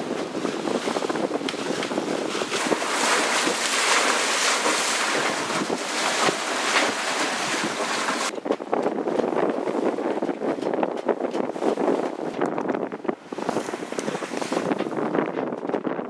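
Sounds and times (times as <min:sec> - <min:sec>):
choppy water splashing on hull: 0:00.0 - 0:16.0
wind buffeting microphone: 0:00.0 - 0:16.0.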